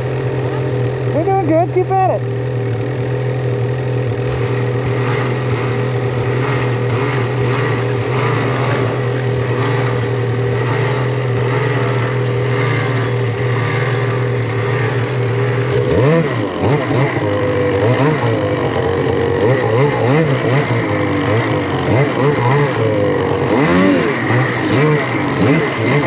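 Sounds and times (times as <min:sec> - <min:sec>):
snowmobile engines revving: 0:00.0 - 0:26.0.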